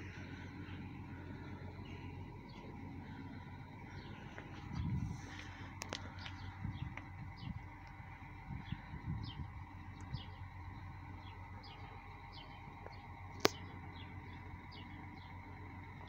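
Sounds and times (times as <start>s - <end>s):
bird chirping: 0.0s - 16.0s
steady low hum: 0.0s - 16.0s.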